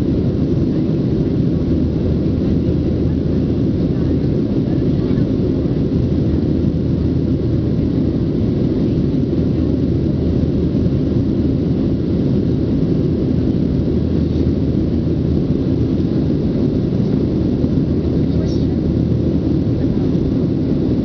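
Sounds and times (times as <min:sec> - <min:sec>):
airplane engines droning: 0:00.0 - 0:21.0.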